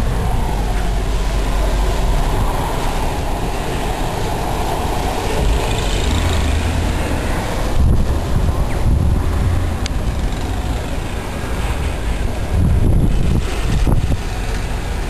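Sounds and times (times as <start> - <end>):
wind buffeting microphone: 0.0 - 15.0
wind rushing: 0.0 - 15.0.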